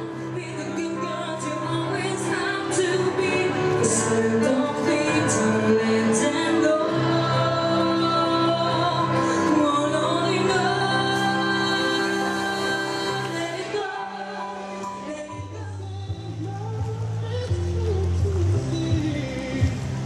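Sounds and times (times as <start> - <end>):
woman singing into microphone: 0.0 - 19.8
instrumental backing music: 0.0 - 20.0.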